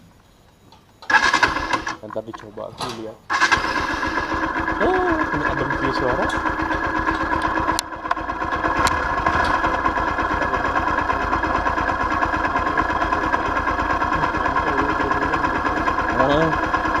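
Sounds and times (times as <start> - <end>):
steady whine: 0.0 - 17.0
vehicle engine idling: 1.1 - 17.0.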